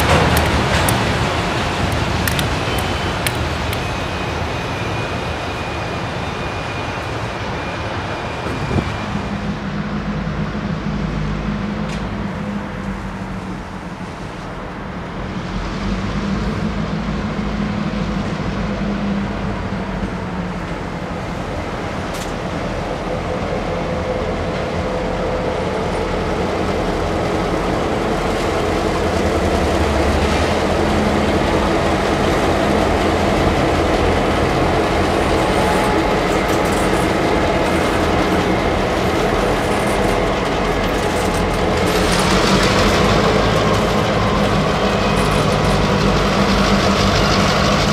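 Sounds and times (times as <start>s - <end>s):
diesel locomotive engine drone: 0.0s - 47.9s
train wheels on rails: 0.0s - 47.9s.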